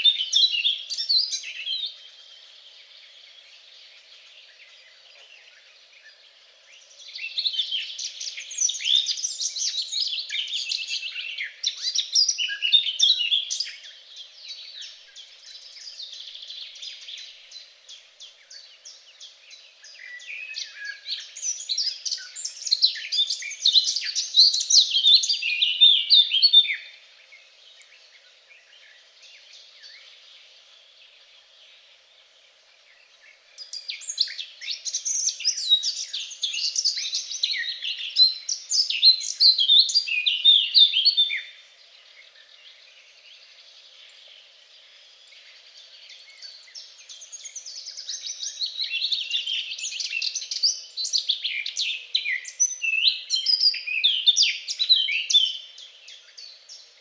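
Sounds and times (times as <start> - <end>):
songbird twittering song: 0.0 - 57.0.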